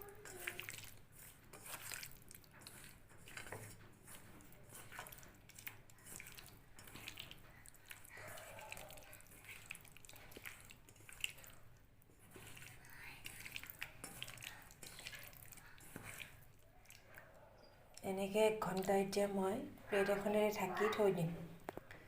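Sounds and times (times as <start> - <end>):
hands squelching marinade: 0.0 - 19.2.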